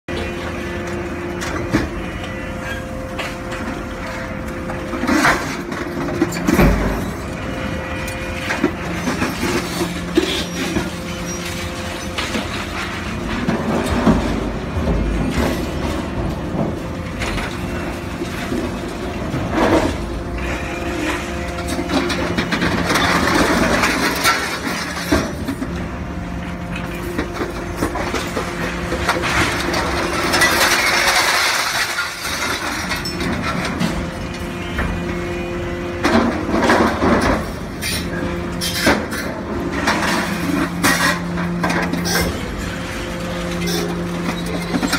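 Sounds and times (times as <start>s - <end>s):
hydraulic machinery humming: 0.1s - 30.5s, 33.3s - 44.9s
metal scraping and crunching: 0.1s - 44.9s
scrap metal clanking and crashing: 0.1s - 44.9s.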